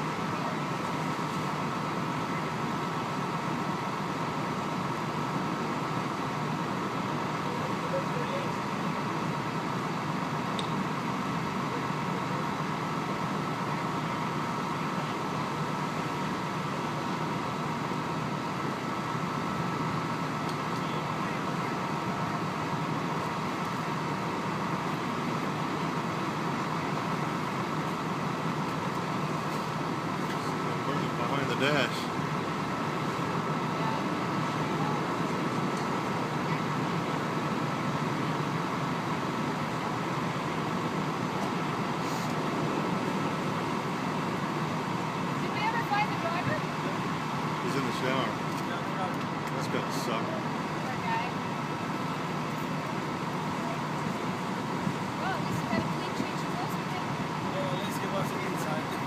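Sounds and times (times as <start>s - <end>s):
diesel engines idling: 0.0s - 59.0s.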